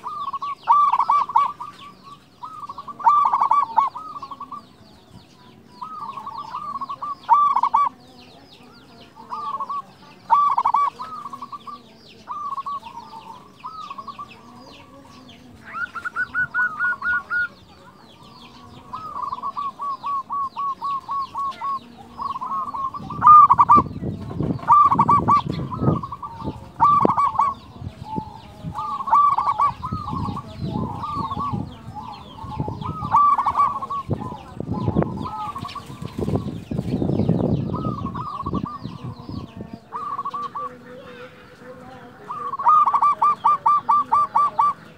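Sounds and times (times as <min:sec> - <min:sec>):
dove cooing: 0:00.0 - 0:44.9
small birds chirping: 0:00.0 - 0:44.9.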